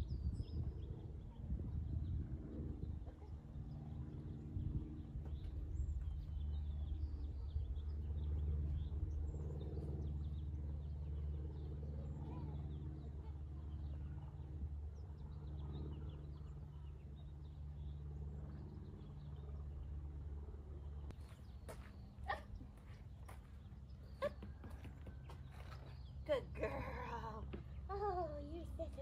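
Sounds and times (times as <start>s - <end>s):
steady low motor drone: 0.0s - 29.0s.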